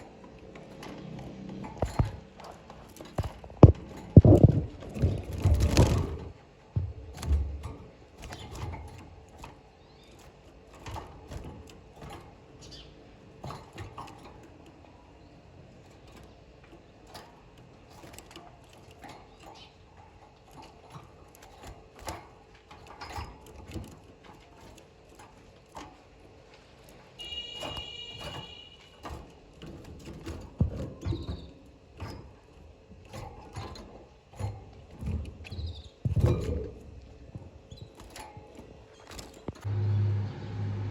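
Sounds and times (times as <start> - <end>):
light clicks and taps in cage: 0.0 - 6.0, 6.7 - 39.7.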